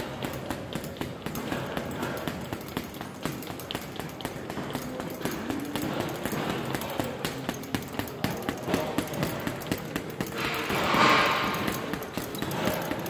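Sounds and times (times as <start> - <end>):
gloves punching a bag: 0.0 - 13.0.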